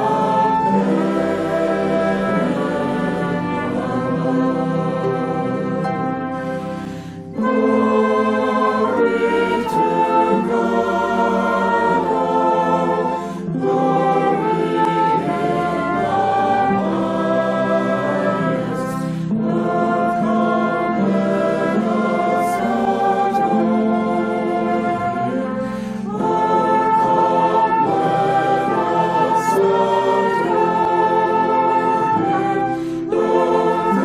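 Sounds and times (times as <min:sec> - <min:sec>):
choir singing a hymn: 0:00.0 - 0:34.0.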